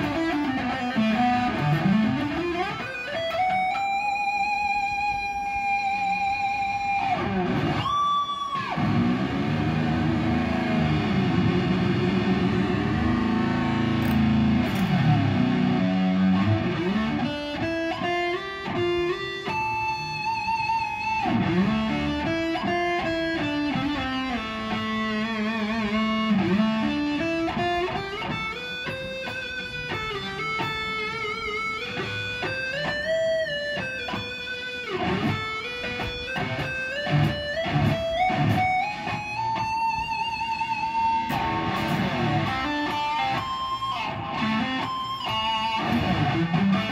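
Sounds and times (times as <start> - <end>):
electric guitar solo: 0.0 - 46.9.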